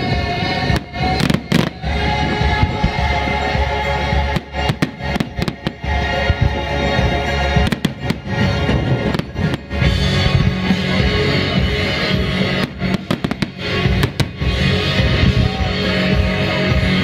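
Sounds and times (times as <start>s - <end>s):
loud music with held tones: 0.0s - 17.0s
fireworks bangs: 0.6s - 3.3s, 4.2s - 15.4s.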